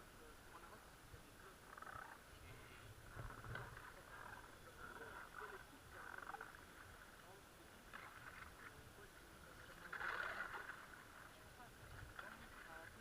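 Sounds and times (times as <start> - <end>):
faint frog calls: 0.0 - 13.0
quiet distant voices: 0.0 - 13.0.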